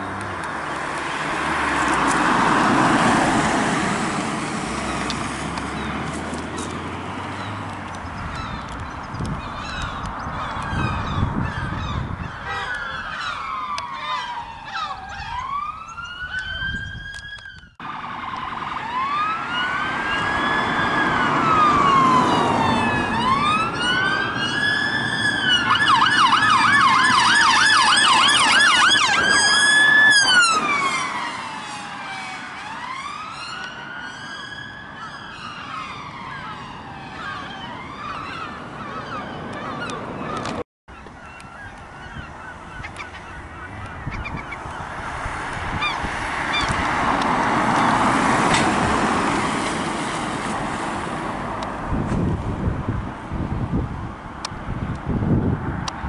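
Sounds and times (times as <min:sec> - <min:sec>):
police sirens wailing: 0:00.0 - 0:51.9.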